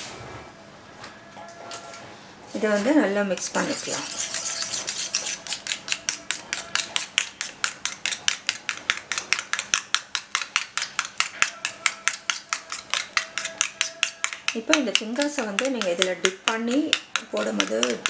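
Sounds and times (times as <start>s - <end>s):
spoon whisking egg in metal bowl: 3.2s - 18.0s.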